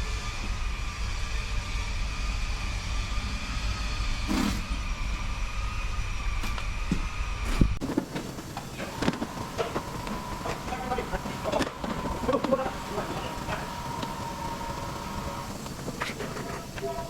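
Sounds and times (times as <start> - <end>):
motor running with high whine: 0.0 - 17.0.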